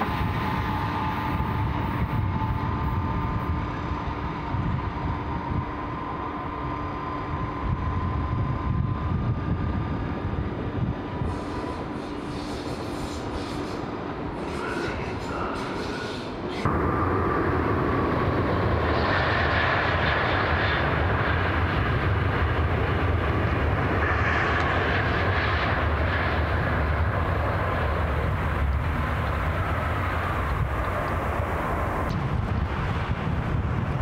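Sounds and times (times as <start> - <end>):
high-speed train passing: 0.0 - 34.0.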